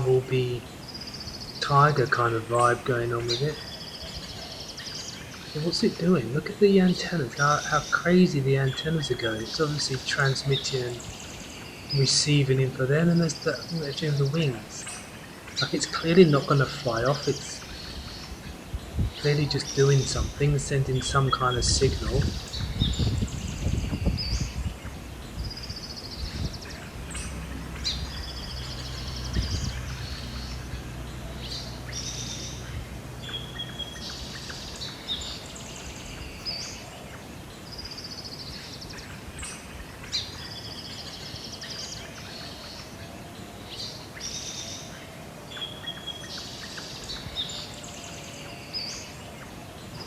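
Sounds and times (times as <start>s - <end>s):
songbird singing trills: 0.0s - 50.0s.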